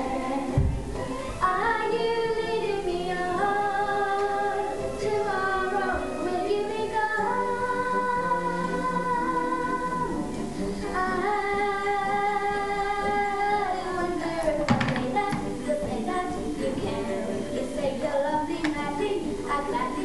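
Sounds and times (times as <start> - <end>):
girl singing into microphone: 0.0 - 20.0.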